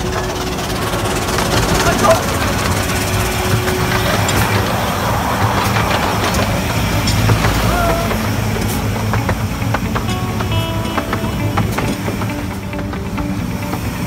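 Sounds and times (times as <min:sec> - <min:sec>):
miniature train running by: 0:00.0 - 0:14.0.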